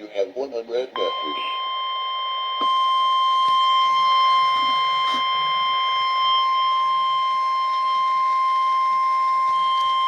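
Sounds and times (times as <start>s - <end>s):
high-pitched electronic alarm tone: 1.0s - 10.0s.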